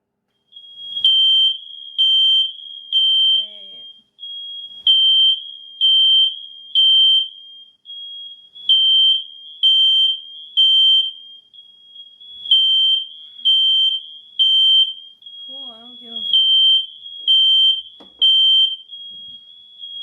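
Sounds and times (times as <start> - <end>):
faint steady alarm tone: 0.3 - 20.0
fire alarm high beeps: 0.4 - 20.0.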